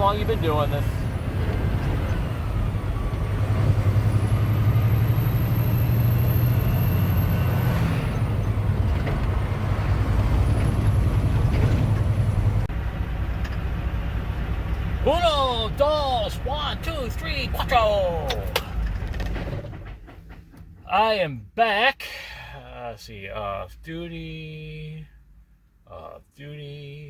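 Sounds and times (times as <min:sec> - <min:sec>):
truck diesel engine hum: 0:00.0 - 0:23.0
road noise: 0:00.0 - 0:27.0.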